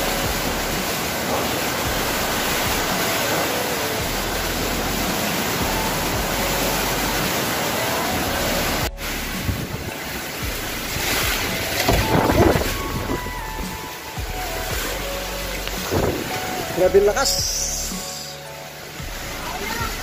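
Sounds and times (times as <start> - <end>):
heavy rain: 0.0 - 20.0
wind: 0.0 - 20.0.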